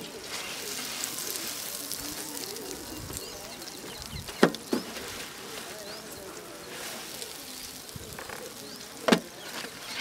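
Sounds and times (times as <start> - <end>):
birds calling: 0.0 - 10.0
dough sizzling in oil: 0.0 - 10.0.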